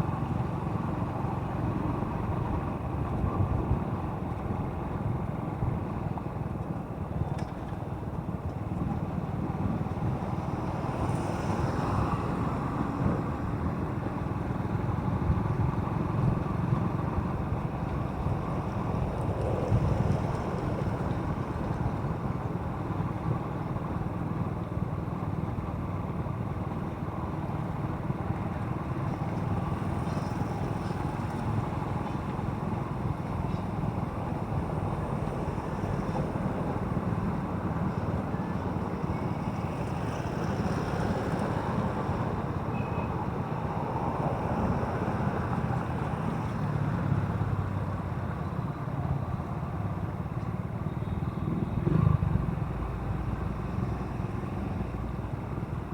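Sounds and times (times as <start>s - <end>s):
road noise: 0.0s - 55.9s.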